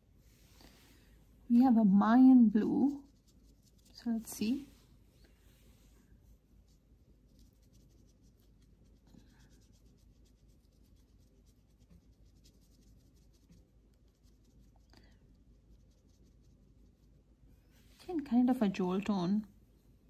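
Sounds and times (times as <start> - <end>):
brush strokes on paper: 0.0 - 18.4.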